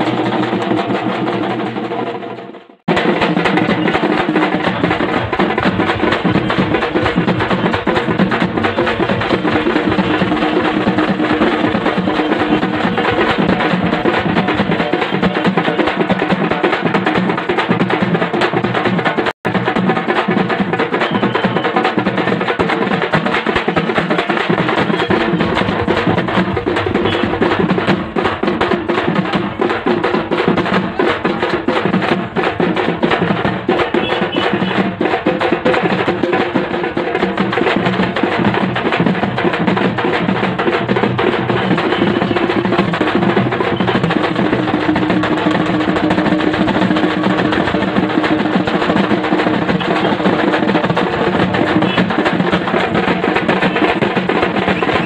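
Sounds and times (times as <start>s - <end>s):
large drums beaten with sticks: 0.0s - 55.0s.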